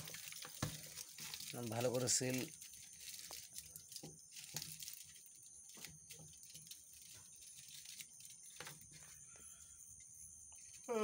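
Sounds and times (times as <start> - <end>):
aluminium foil crinkling: 0.0 - 9.2.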